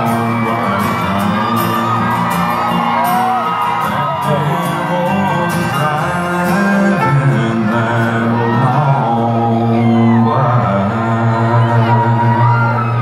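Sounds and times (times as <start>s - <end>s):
fiddle melody: 0.0s - 10.5s
audience whooping: 0.0s - 13.0s
country band playing: 0.0s - 13.0s.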